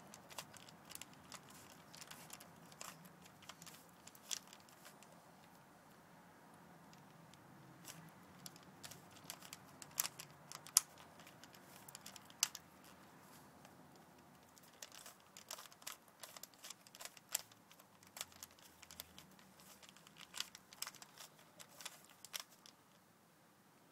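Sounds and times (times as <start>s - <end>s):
puzzle cube plastic clicks: 0.0s - 5.6s, 6.9s - 22.9s.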